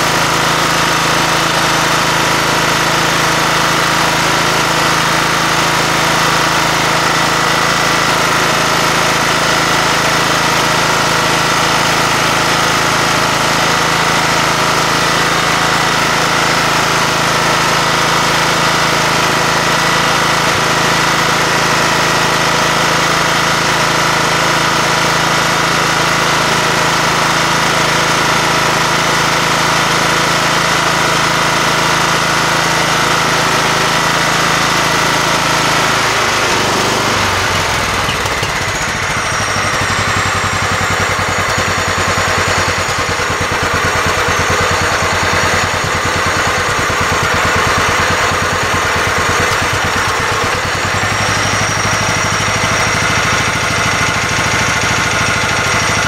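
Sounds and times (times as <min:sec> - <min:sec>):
riding mower engine idling: 0:00.0 - 0:56.0.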